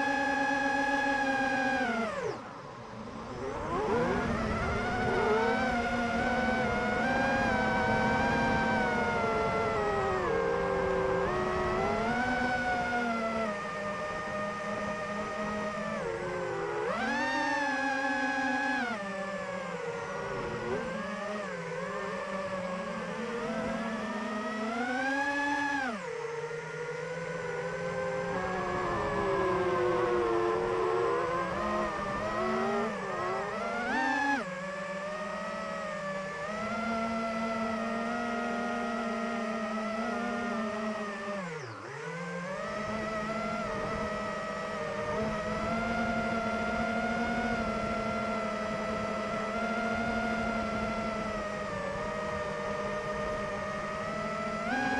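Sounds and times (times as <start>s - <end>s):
quadcopter motors whining: 0.0s - 54.9s.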